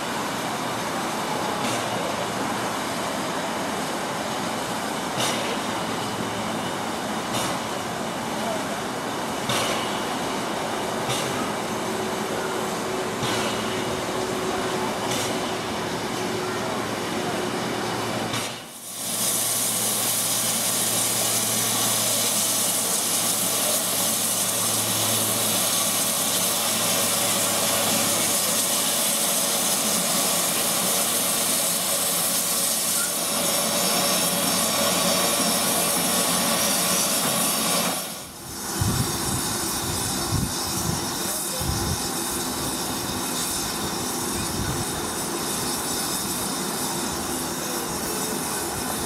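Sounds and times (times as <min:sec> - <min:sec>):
steam locomotive hissing steam: 0:00.0 - 0:49.0.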